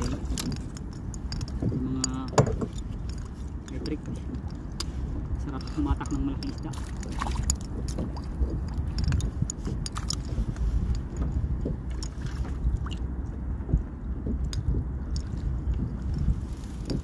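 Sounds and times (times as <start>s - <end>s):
clicks and knocks from boat: 0.0s - 17.0s
water lapping against kayak: 0.0s - 17.0s
wind on microphone: 0.0s - 17.0s.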